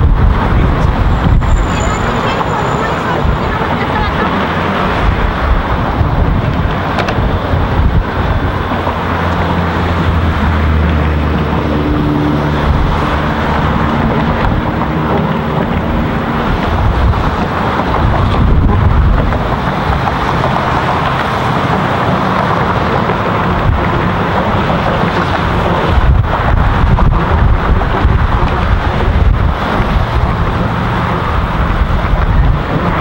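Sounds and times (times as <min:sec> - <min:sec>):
low engine hum: 0:00.0 - 0:33.0
road traffic rushing past: 0:00.0 - 0:33.0
wind buffeting microphone: 0:00.0 - 0:33.0.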